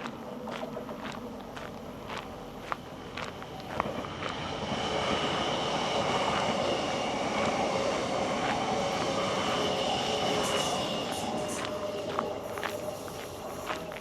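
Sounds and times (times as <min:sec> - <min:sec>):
train rail rumble: 0:00.0 - 0:14.0
wheels whining on rails: 0:00.0 - 0:14.0.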